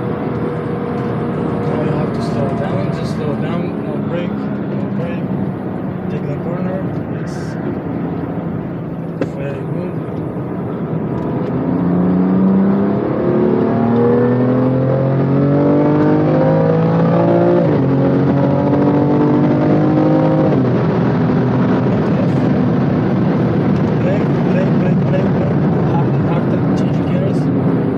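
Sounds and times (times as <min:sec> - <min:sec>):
car engine accelerating hard: 0:00.0 - 0:27.9.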